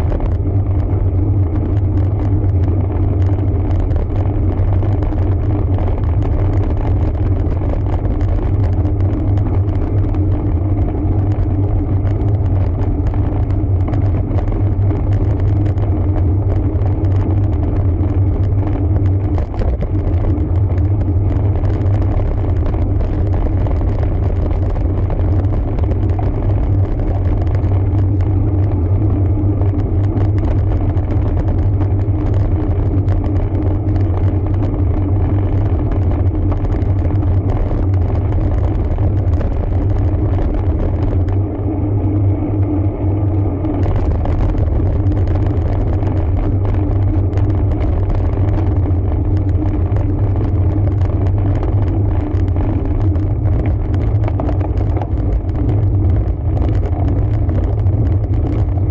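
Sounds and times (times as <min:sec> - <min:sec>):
microphone crackle: 0:00.0 - 0:58.9
wind and road noise: 0:00.0 - 0:58.9.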